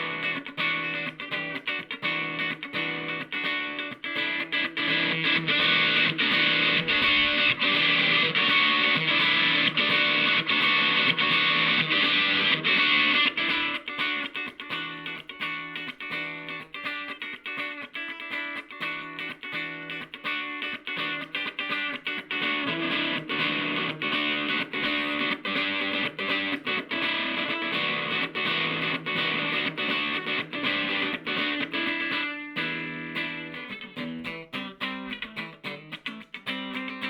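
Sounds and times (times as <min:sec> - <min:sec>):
electric guitar picked notes: 0:00.0 - 0:37.0.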